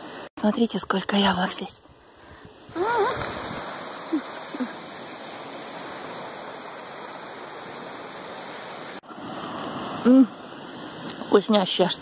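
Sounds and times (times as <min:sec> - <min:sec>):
rushing hiss of outdoor noise: 0:00.0 - 0:00.3, 0:01.0 - 0:12.0.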